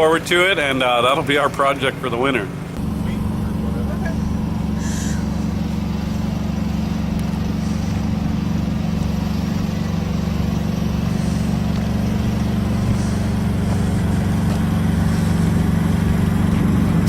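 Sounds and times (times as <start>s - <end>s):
large engine droning: 0.0s - 17.0s.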